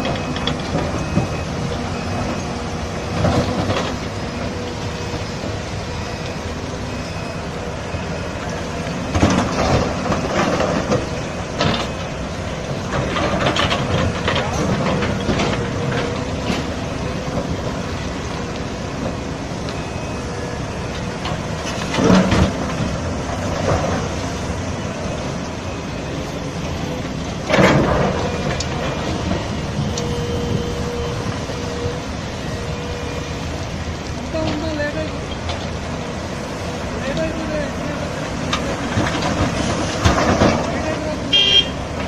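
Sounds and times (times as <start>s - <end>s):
heavy machinery running: 0.0s - 42.0s.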